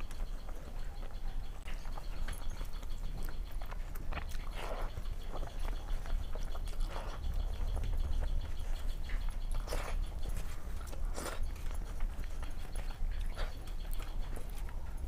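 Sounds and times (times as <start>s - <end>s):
chewing and mouth smacks: 0.0s - 15.0s
fingers squelching rice: 0.0s - 15.0s.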